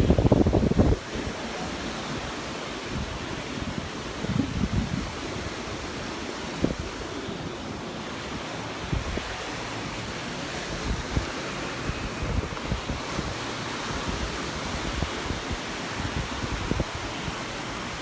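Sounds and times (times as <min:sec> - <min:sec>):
surf washing onto beach: 0:00.0 - 0:18.0
wind buffeting microphone: 0:00.0 - 0:18.0.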